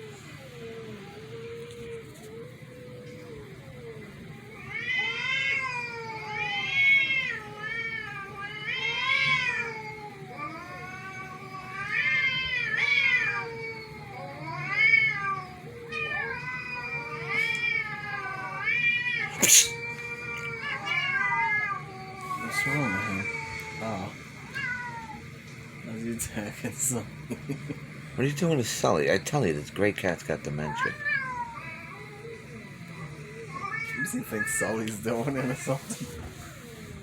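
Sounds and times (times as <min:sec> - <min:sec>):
cat meowing: 0:00.4 - 0:25.3, 0:30.6 - 0:32.6, 0:33.3 - 0:36.8.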